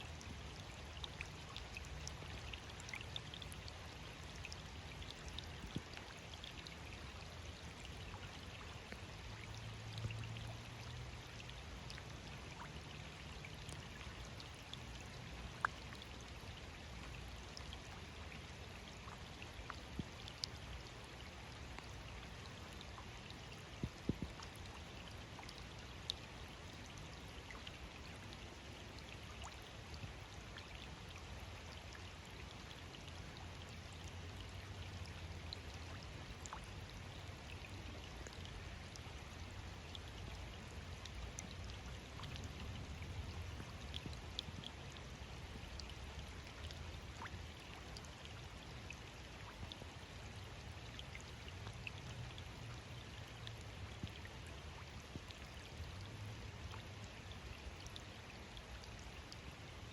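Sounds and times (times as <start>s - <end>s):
steady rain: 0.0s - 48.8s.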